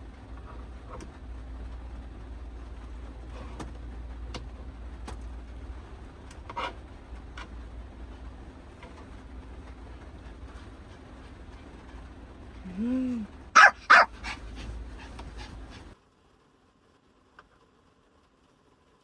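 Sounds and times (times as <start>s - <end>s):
heavy rain drumming on a roof: 0.0s - 16.0s.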